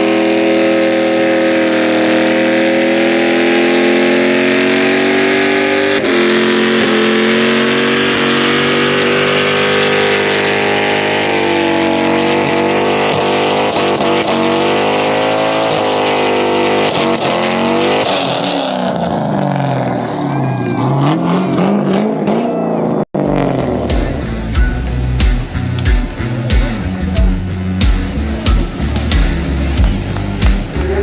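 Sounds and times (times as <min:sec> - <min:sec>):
race car engines running: 0:00.0 - 0:31.0.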